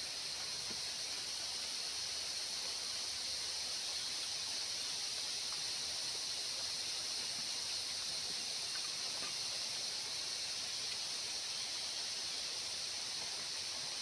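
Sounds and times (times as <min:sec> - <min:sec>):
forest insects chorus: 0:00.0 - 0:14.0.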